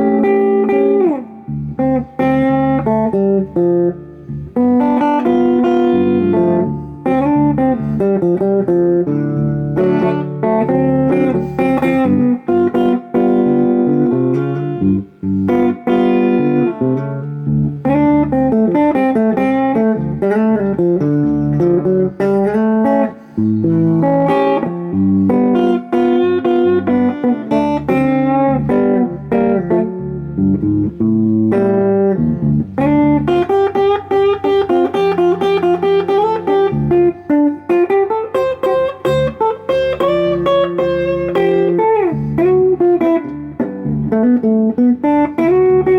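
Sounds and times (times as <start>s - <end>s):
blues electric guitar: 0.0s - 45.9s.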